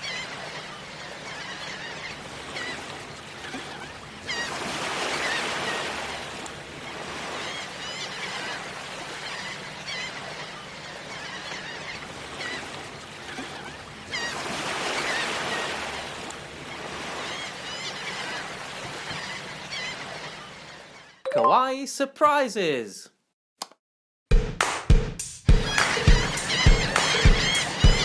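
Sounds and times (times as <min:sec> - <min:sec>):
shorebirds chirping: 0:00.0 - 0:23.0, 0:25.5 - 0:28.0.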